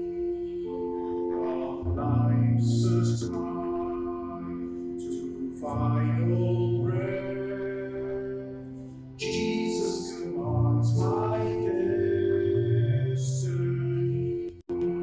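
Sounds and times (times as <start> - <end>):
voices singing worship music: 0.0 - 15.0.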